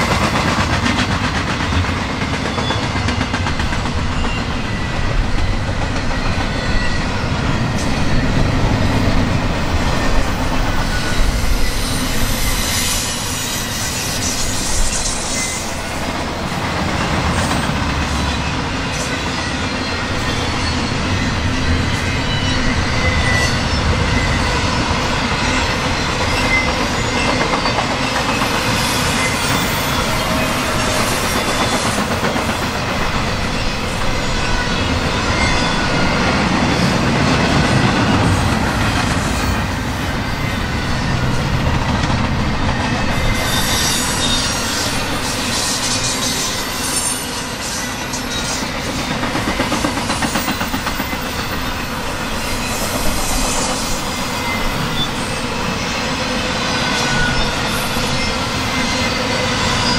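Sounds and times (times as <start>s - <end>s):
steel wheels rumbling on rails: 0.0s - 59.9s
high wheel squeal: 4.0s - 9.0s, 9.7s - 16.2s, 18.2s - 38.5s, 42.7s - 59.9s.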